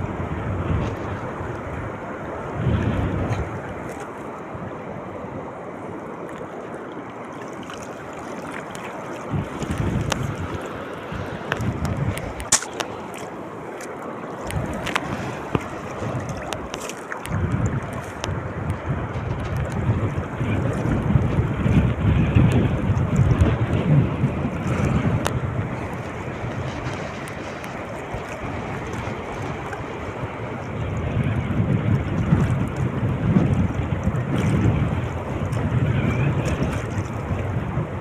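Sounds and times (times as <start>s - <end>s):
wind buffeting microphone: 0.0s - 6.2s, 7.9s - 38.0s
sea water washing: 0.0s - 38.0s.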